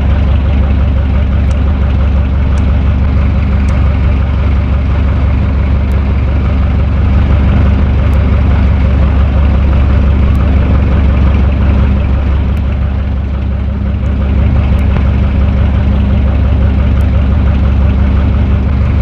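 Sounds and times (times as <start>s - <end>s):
electric fan motor hum: 0.0s - 19.0s.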